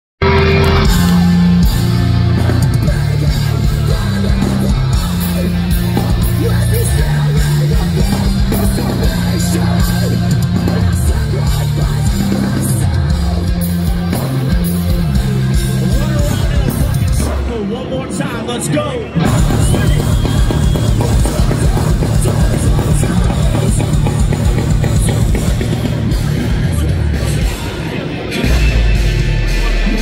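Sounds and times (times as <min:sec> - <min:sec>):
drums with cymbal hits: 0:00.2 - 0:17.8, 0:19.2 - 0:30.0
bass guitar: 0:00.2 - 0:30.0
distorted electric guitars: 0:00.2 - 0:30.0.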